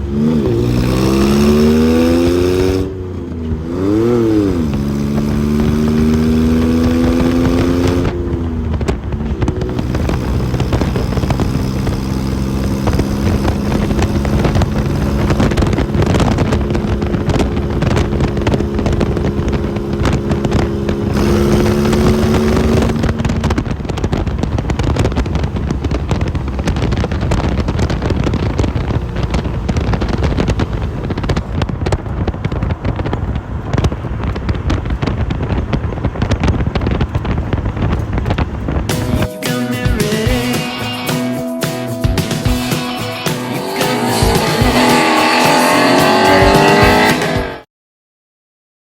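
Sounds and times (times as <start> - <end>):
heavy wind noise: 0.0 - 39.4
car engine accelerating: 0.0 - 47.7.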